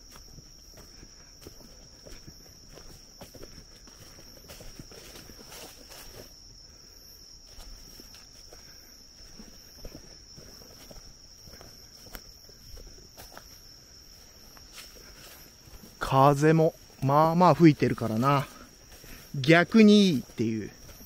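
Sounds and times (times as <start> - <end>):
footsteps on forest floor: 0.0 - 21.0
night insects trilling: 0.0 - 21.0.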